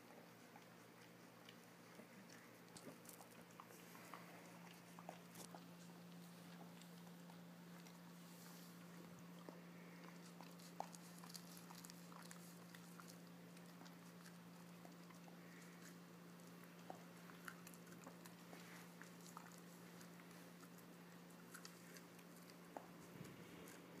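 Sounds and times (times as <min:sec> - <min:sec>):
dog crunching corn: 0:00.0 - 0:24.0.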